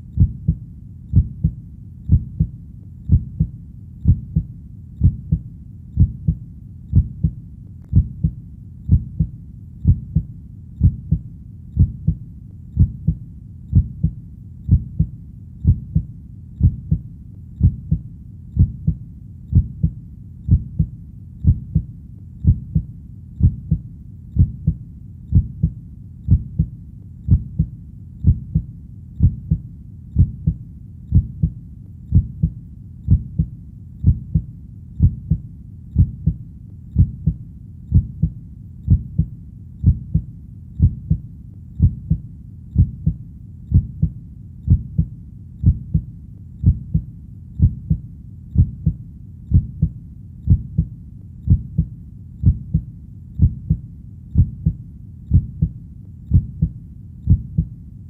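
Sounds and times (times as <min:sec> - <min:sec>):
heartbeat: 0:00.0 - 0:57.8.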